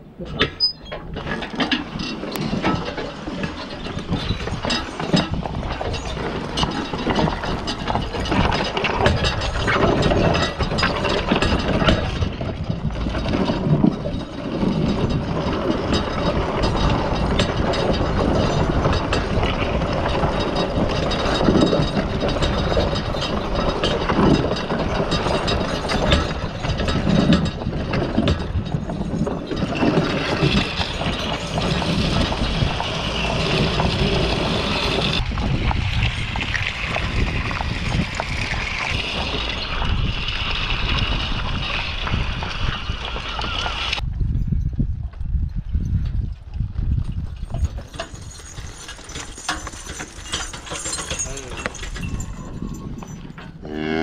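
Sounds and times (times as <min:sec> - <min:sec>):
wooden cart rattling and creaking: 0:00.0 - 0:54.0.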